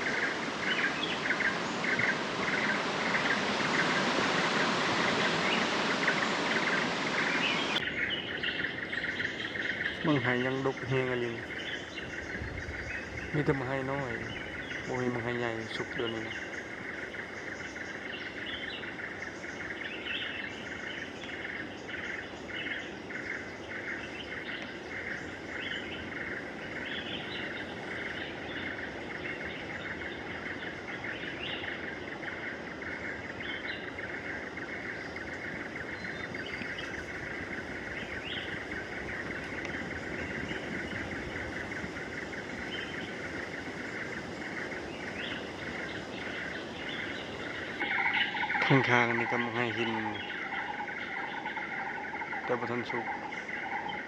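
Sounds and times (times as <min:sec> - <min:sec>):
insects buzzing: 0:00.0 - 0:54.0
bird chirps: 0:05.1 - 0:54.0.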